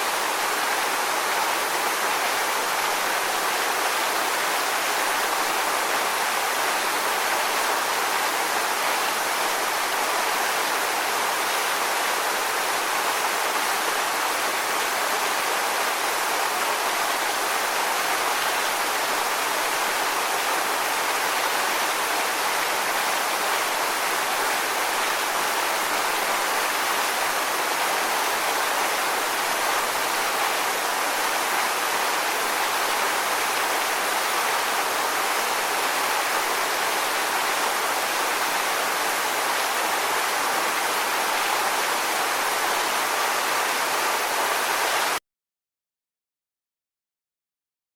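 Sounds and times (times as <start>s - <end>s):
rushing water: 0.0s - 45.2s.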